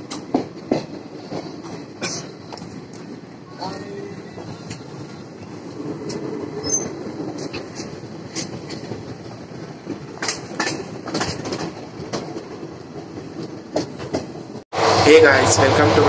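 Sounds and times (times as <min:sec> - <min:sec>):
wheels clicking over rail joints: 0:00.0 - 0:14.6
train wheels rumbling on rails: 0:00.0 - 0:16.0.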